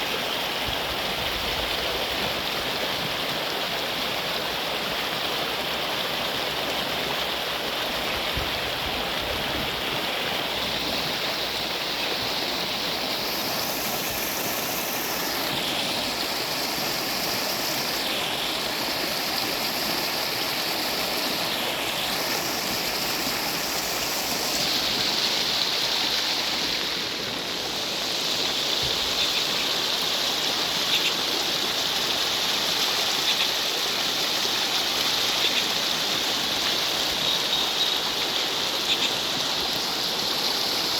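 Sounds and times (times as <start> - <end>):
water rushing in heavy rain: 0.0 - 40.9.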